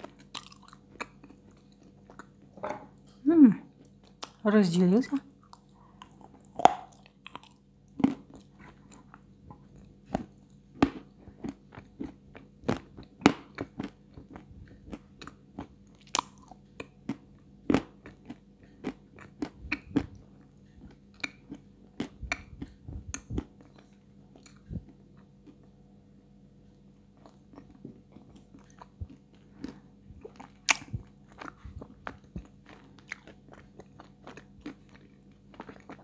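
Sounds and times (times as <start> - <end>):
crunchy chewing of clay: 0.0 - 2.5, 5.4 - 25.7, 27.1 - 36.0.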